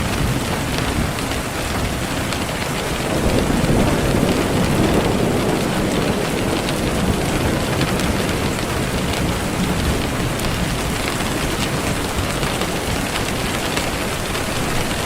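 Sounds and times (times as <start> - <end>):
distant thunder rumble: 0.0 - 15.0
heavy rain: 0.0 - 15.0.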